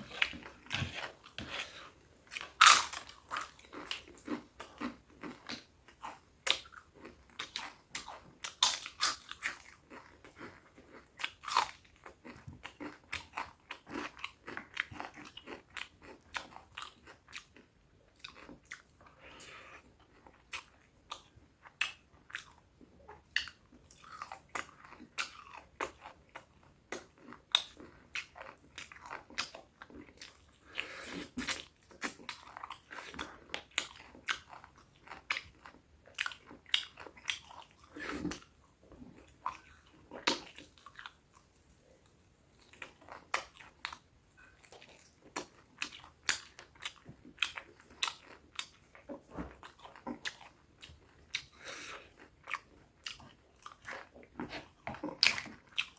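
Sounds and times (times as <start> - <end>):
chewing and crunching food: 0.0 - 55.9.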